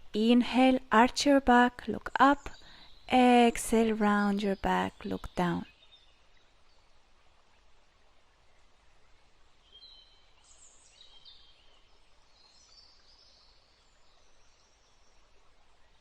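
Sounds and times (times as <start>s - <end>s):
soft steady hiss: 0.0s - 16.0s
faint birdsong: 1.2s - 7.7s, 8.3s - 16.0s.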